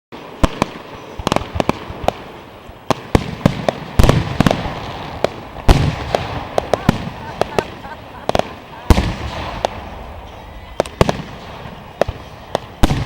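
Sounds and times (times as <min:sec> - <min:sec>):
fireworks bangs: 0:00.2 - 0:13.0.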